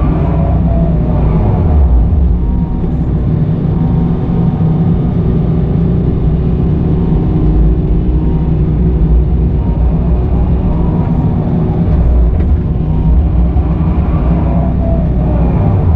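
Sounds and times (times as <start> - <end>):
excavator diesel engine running: 0.0 - 15.9.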